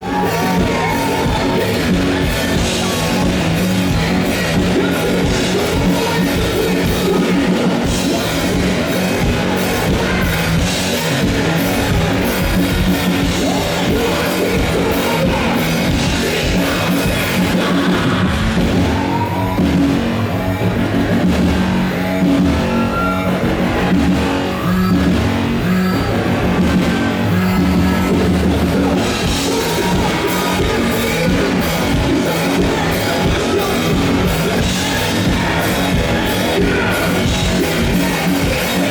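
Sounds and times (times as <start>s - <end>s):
drum kit: 0.0s - 38.9s
electric guitar: 0.0s - 38.9s
live rock band playing: 0.0s - 38.9s.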